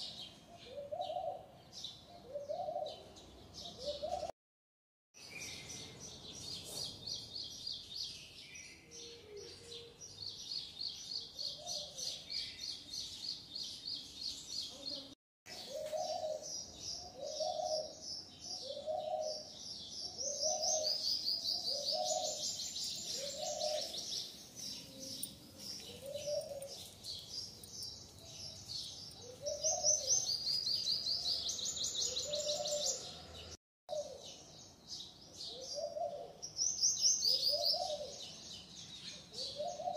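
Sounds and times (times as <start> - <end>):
small birds trilling: 0.0 - 4.3, 5.2 - 39.9.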